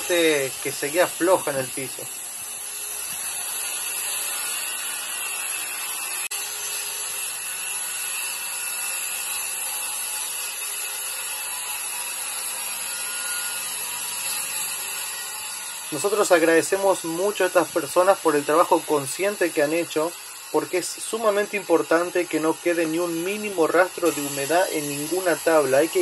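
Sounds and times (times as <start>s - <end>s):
circular saw cutting flooring: 0.0s - 26.0s.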